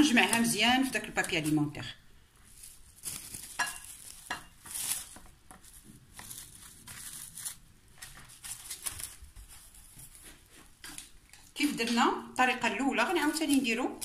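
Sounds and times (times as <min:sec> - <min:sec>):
cling film crinkling: 0:00.0 - 0:01.8, 0:02.4 - 0:11.6, 0:13.0 - 0:14.0.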